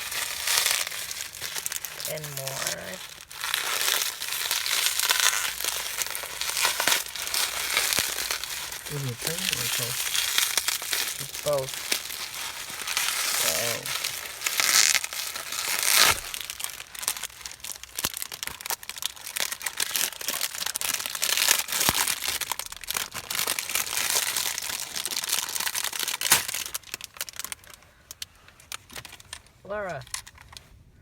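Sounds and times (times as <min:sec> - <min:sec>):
packaging crinkling and tearing: 0:00.0 - 0:30.7.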